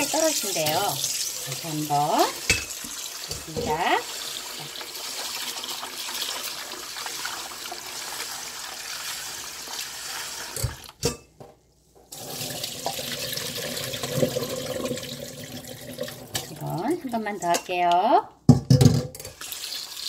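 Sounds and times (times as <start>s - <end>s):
tap water running into metal bowl: 0.0s - 11.1s, 12.1s - 16.8s, 19.2s - 20.0s.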